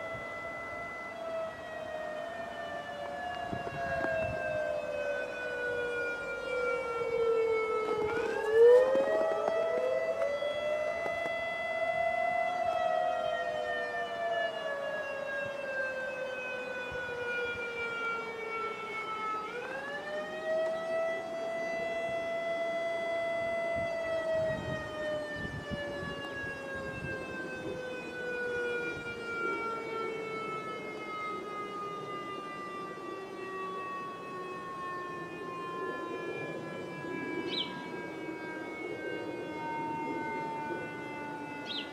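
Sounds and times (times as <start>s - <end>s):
warning siren wailing: 0.0s - 41.9s.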